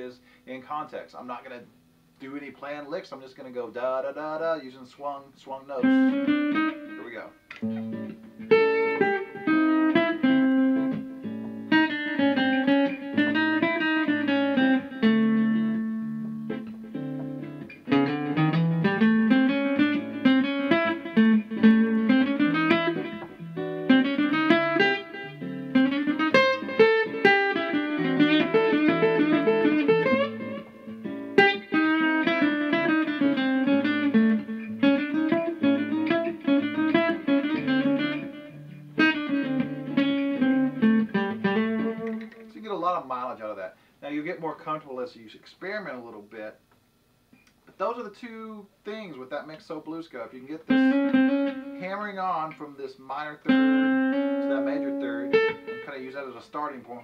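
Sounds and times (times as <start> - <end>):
acoustic guitar jazzy line: 0.0 - 45.0, 47.8 - 57.0.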